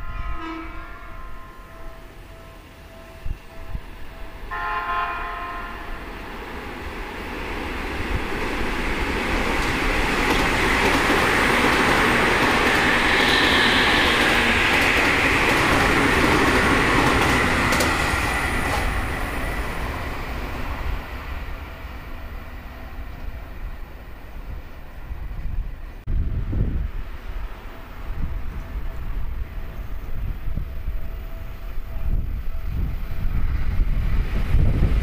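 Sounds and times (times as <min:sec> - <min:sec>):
electric train passing: 0:00.0 - 0:35.0.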